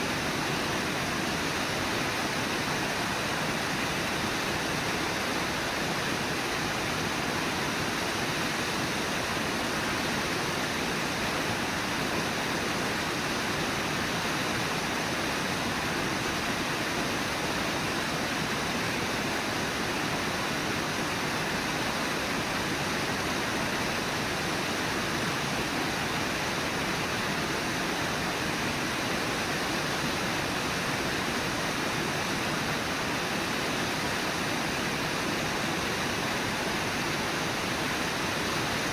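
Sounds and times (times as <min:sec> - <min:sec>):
river pouring over waterfall: 0:00.0 - 0:38.9.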